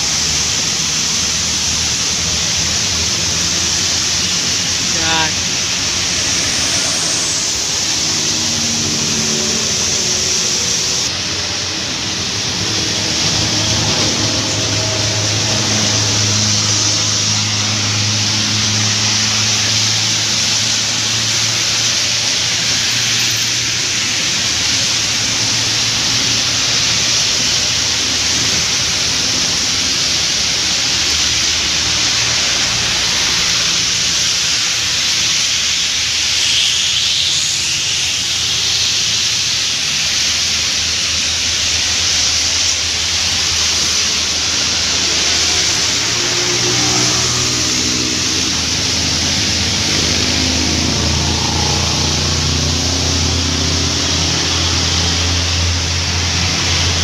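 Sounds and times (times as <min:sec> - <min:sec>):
passing car and motorcycle engines: 0:00.0 - 0:36.5, 0:39.6 - 0:57.0
heavy rain hissing: 0:00.0 - 0:57.0
tyres on wet asphalt: 0:00.0 - 0:57.0.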